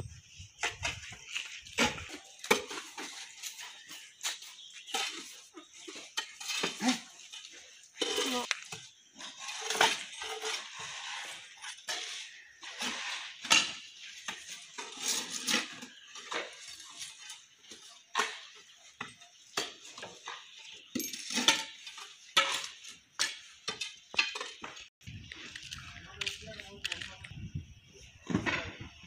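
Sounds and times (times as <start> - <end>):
hand tools scraping mud: 0.2 - 24.6.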